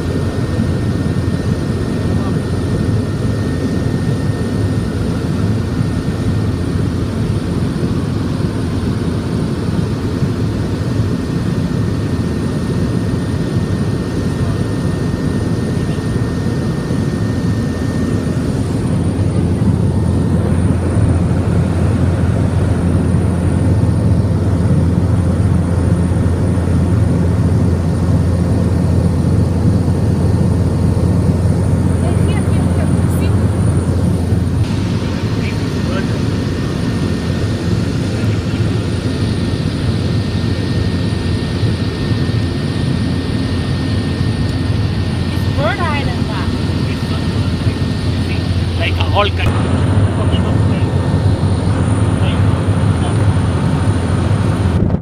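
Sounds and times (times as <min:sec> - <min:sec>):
seaplane engine and propeller drone: 0:00.0 - 0:55.0.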